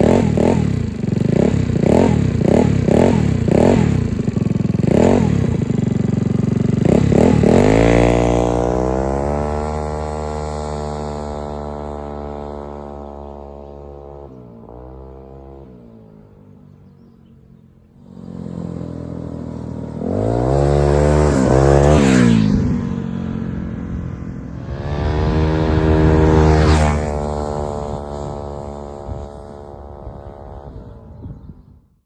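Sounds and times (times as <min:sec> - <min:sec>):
scooter engine revving: 0:00.0 - 0:16.4, 0:17.8 - 0:31.4.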